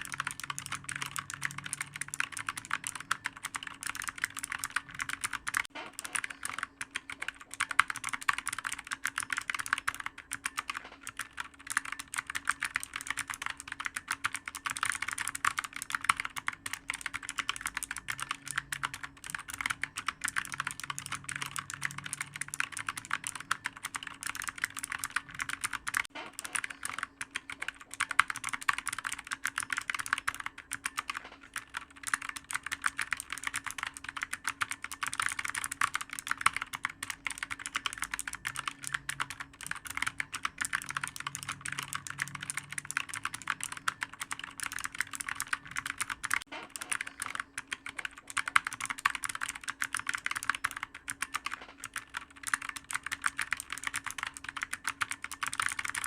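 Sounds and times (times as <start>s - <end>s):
faint steady hum: 0.0s - 56.0s
fast keyboard typing: 0.0s - 56.0s.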